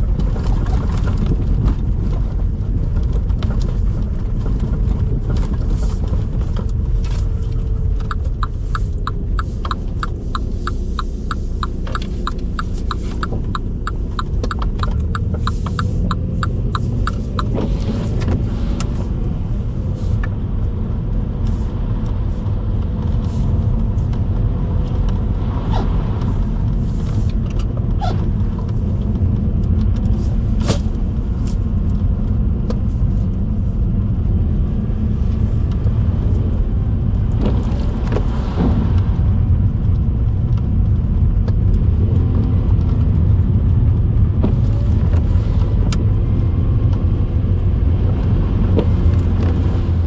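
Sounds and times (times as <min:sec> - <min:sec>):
car engine rumble: 0:00.0 - 0:50.0
road noise: 0:00.0 - 0:50.0.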